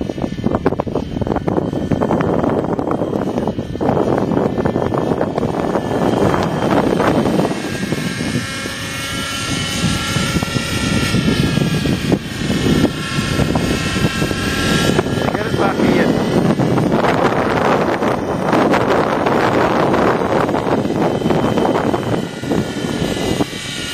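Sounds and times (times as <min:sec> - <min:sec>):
model helicopter engine whining: 0:00.0 - 0:23.9
wind buffeting microphone: 0:00.0 - 0:23.9.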